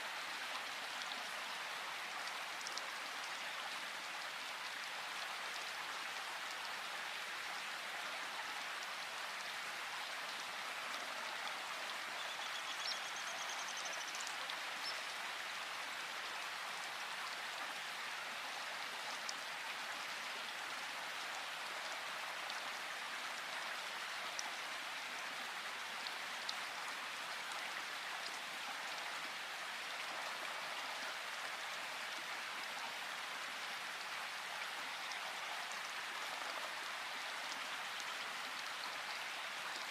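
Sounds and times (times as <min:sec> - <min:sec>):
rain pattering in forest: 0:00.0 - 0:39.9.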